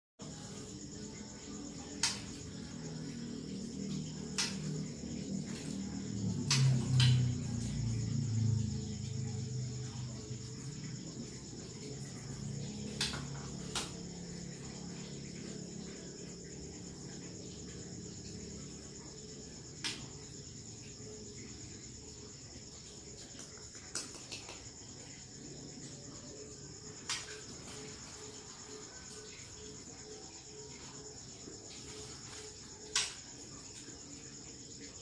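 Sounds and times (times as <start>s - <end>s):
crickets chirping: 0.2s - 35.0s.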